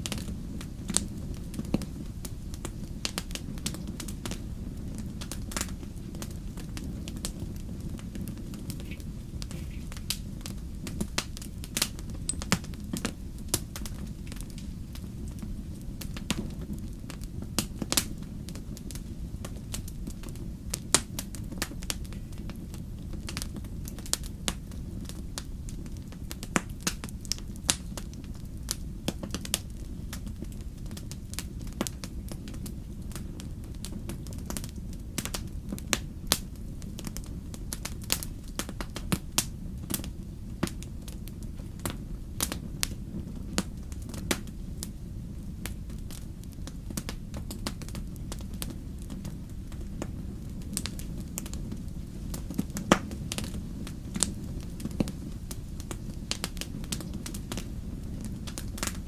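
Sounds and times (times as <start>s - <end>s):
campfire crackling and popping: 0.0s - 59.0s
low rumble of burning fire: 0.0s - 59.0s.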